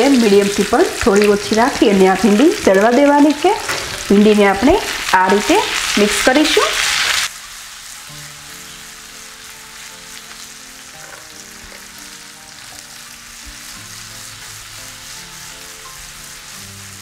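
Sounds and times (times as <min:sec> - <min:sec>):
okra sizzling in hot oil: 0:00.0 - 0:17.0
soft background music: 0:00.0 - 0:17.0.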